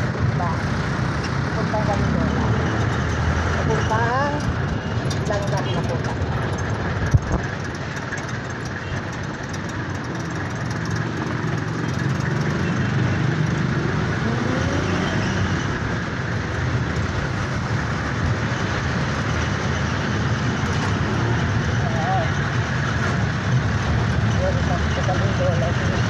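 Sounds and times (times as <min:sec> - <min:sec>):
road noise: 0:00.0 - 0:26.0
vehicle engine running: 0:00.0 - 0:26.0.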